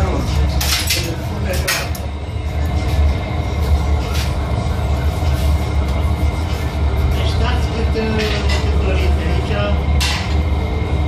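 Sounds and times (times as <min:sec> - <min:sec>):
furnace low rumble: 0:00.0 - 0:11.0.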